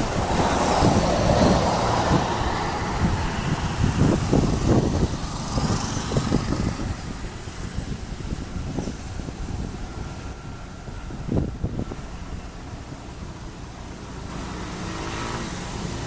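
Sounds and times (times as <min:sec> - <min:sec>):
gusty wind rumble on microphone: 0:00.0 - 0:16.0
light aircraft engine and propeller: 0:00.0 - 0:16.0.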